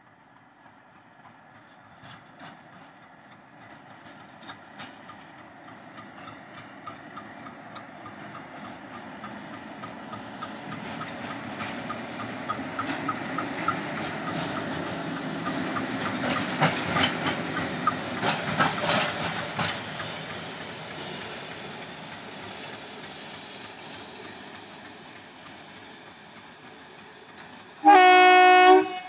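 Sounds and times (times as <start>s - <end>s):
diesel locomotive engine passing: 0.0s - 29.0s
wheels clicking over rail joints: 0.4s - 28.7s.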